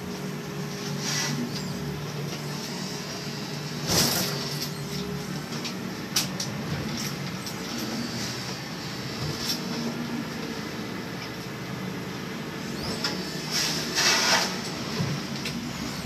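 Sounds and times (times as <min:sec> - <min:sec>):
marine engine humming: 0:00.0 - 0:16.0.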